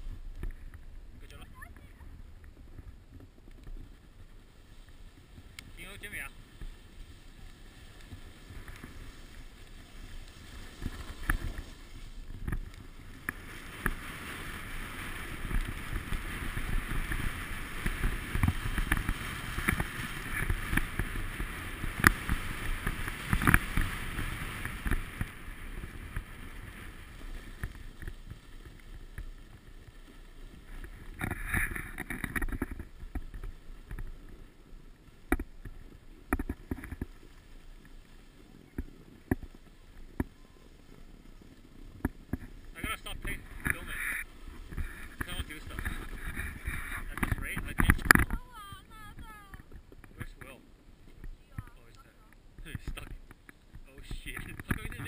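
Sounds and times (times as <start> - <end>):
wind rumbling on microphone: 0.0 - 55.0
skis hissing and scraping on snow: 3.6 - 48.1.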